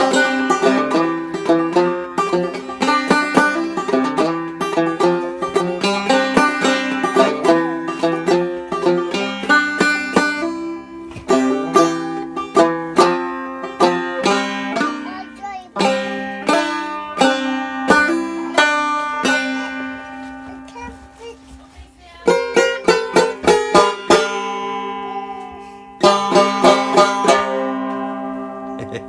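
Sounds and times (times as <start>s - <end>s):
plucked string instrument picking: 0.0s - 21.3s, 22.2s - 29.0s.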